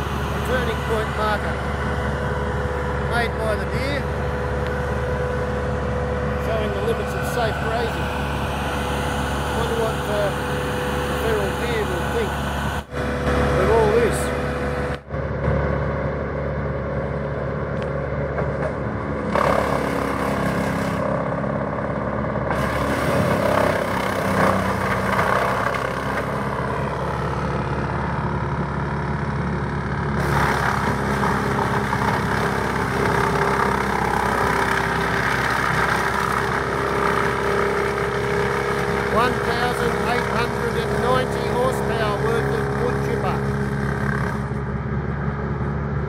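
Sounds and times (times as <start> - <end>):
woodchipper engine running: 0.0 - 46.0.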